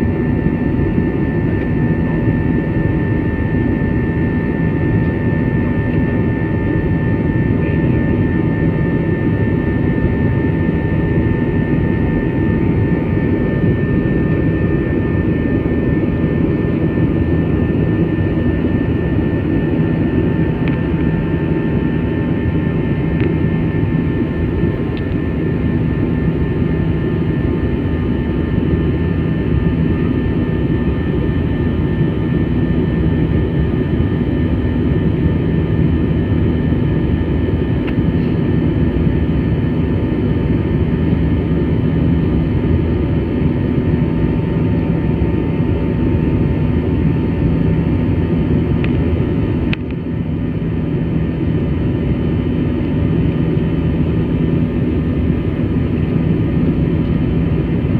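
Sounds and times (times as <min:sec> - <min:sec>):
high engine whine: 0:00.0 - 0:57.9
jet engines rumbling in cabin: 0:00.0 - 0:57.9.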